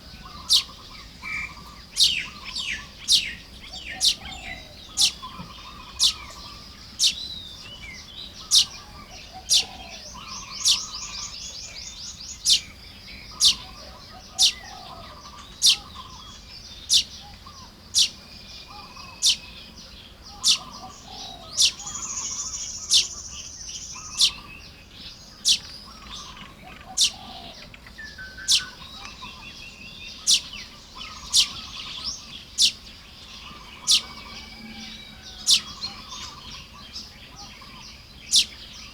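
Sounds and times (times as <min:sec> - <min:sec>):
weaver birds chattering: 0:00.0 - 0:38.9.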